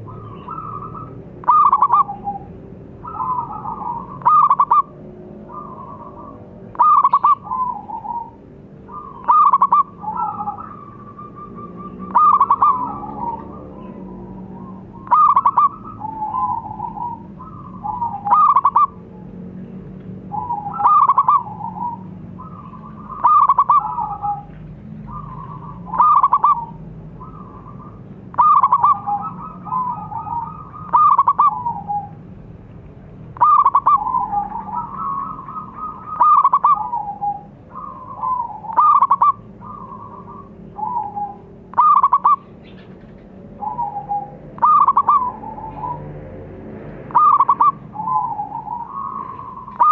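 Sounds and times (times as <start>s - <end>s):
dove cooing: 0.0s - 19.4s, 20.2s - 32.3s, 33.3s - 46.2s, 47.0s - 49.9s.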